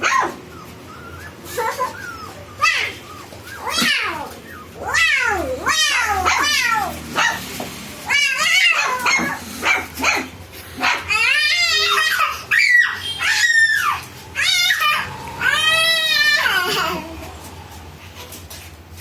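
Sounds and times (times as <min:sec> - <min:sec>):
puppies whining and yelping: 0:00.0 - 0:17.3.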